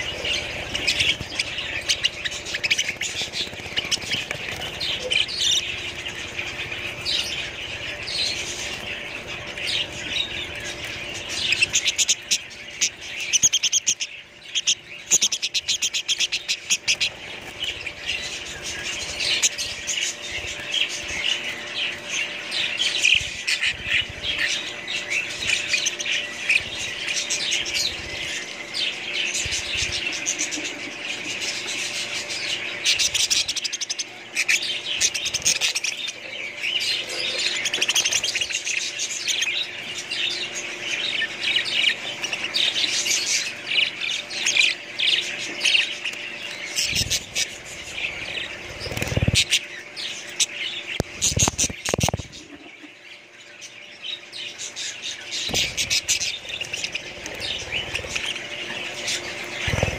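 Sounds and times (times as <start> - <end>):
budgerigars chattering: 0.0 - 59.9.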